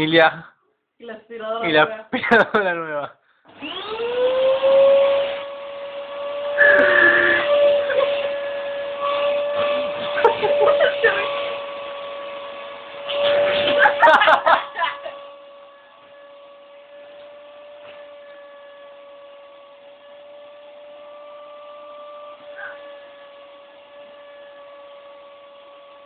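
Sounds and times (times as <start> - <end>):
vacuum cleaner motor whine: 3.5 - 26.0.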